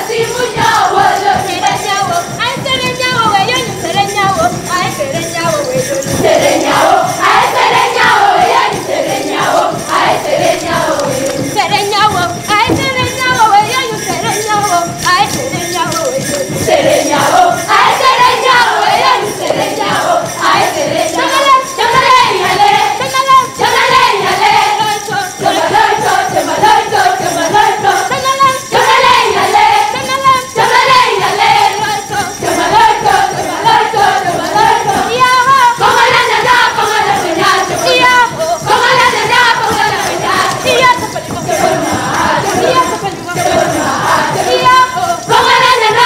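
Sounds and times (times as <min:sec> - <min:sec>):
group singing: 0:00.0 - 0:46.0
rhythmic jingling percussion: 0:00.0 - 0:46.0.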